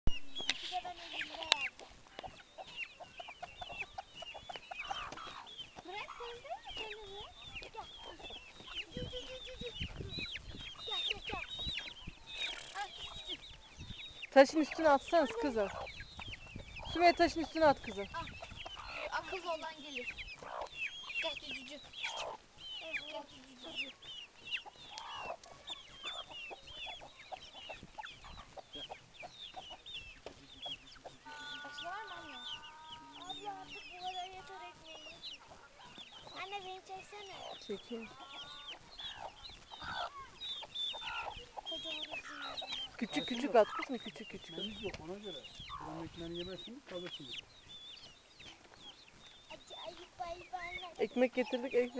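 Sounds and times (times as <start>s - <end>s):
chickens chirping: 0.1s - 51.9s
hens clucking: 0.2s - 51.9s.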